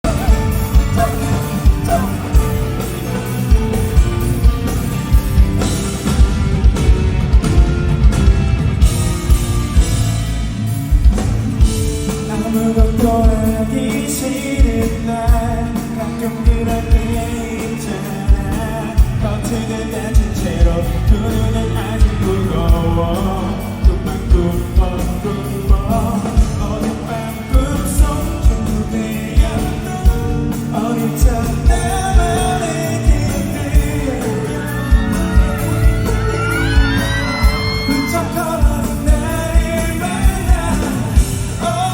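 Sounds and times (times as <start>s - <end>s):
man singing: 0.0s - 5.8s, 11.6s - 41.9s
live pop band playing: 0.0s - 41.9s.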